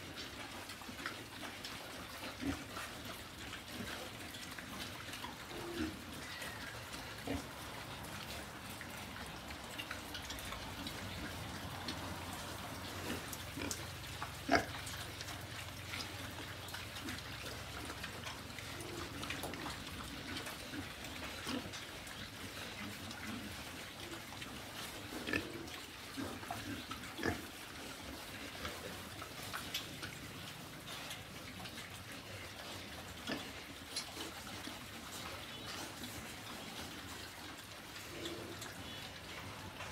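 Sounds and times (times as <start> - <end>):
pigs chewing and snuffling: 0.0 - 39.9
pigs grunting: 0.6 - 39.9.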